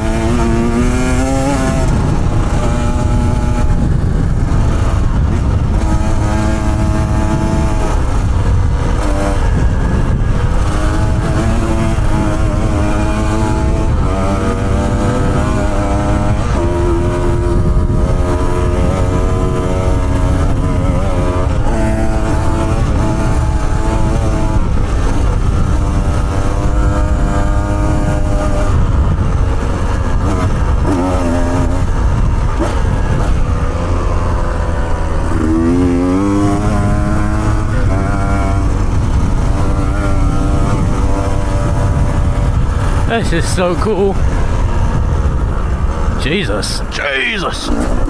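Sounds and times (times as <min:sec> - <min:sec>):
heavy low rumble: 0:00.0 - 0:19.5, 0:28.3 - 0:48.0
off-road motorcycle engine revving: 0:00.0 - 0:48.0.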